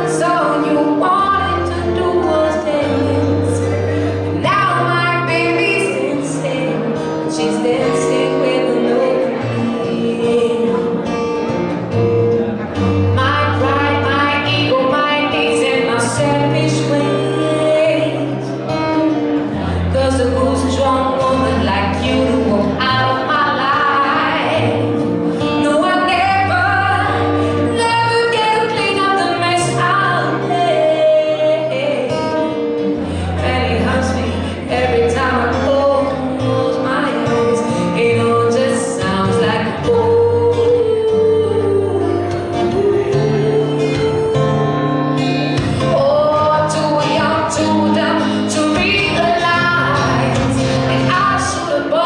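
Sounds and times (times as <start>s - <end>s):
woman singing a ballad: 0.0s - 11.5s, 12.9s - 52.0s
acoustic guitar: 0.0s - 52.0s.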